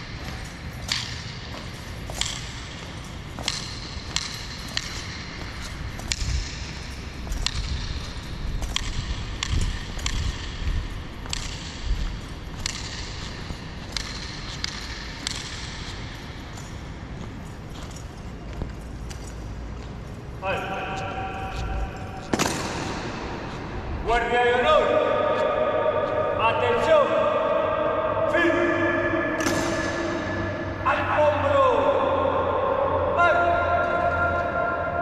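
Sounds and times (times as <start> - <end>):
marching footsteps echoing in hall: 0.0 - 35.0.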